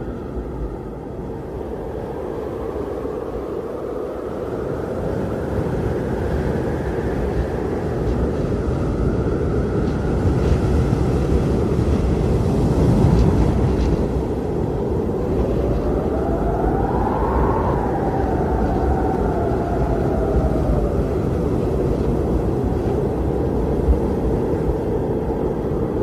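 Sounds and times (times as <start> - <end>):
howling wind whistle: 0.0 - 26.0
wind gusts rumbling: 0.0 - 26.0.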